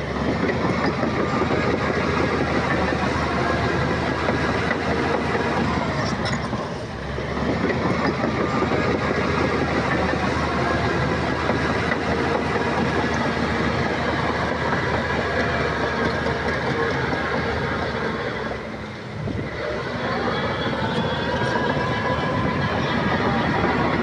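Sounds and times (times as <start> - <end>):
bulldozer diesel engine: 0.0 - 24.0
steel tracks clanking: 0.0 - 24.0.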